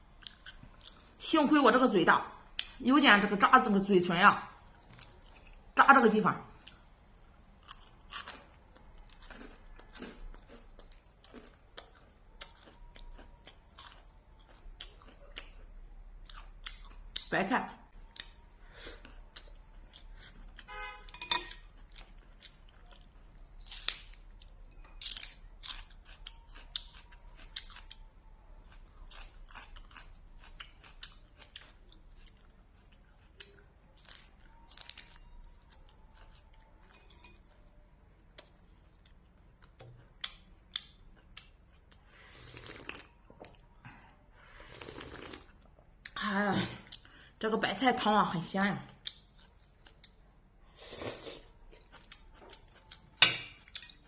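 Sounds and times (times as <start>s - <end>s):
person chewing and crunching food: 0.0s - 1.2s, 6.5s - 20.7s, 21.5s - 46.2s, 48.9s - 54.0s.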